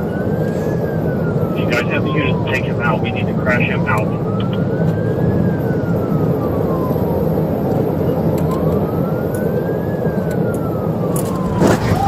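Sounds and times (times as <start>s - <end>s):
police siren wailing: 0.0s - 12.0s
road and engine rumble: 0.0s - 12.0s.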